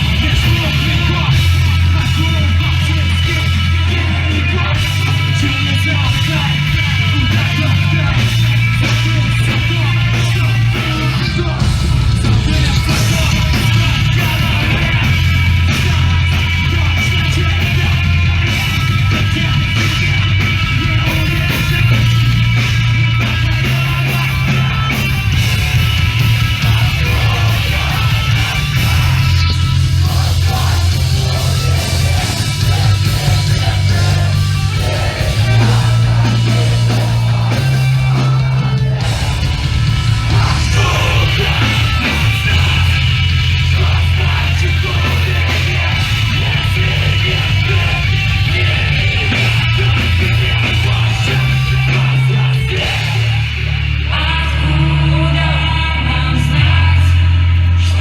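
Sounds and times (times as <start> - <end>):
bass line: 0.0 - 58.0
distorted electric guitars: 0.0 - 58.0
drums: 0.0 - 58.0.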